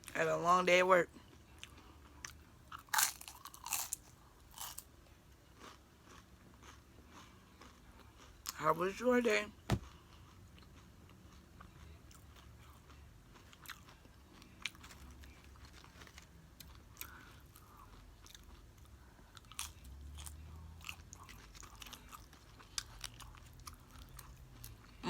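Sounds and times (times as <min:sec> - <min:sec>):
chewing and crunching nachos: 0:00.0 - 0:25.0.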